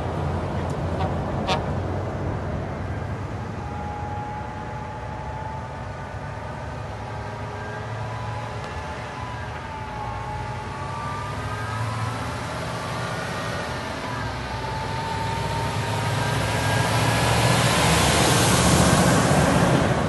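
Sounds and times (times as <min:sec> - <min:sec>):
truck diesel engine rumbling: 0:00.0 - 0:20.0
engine whine wavering in pitch: 0:02.4 - 0:20.0.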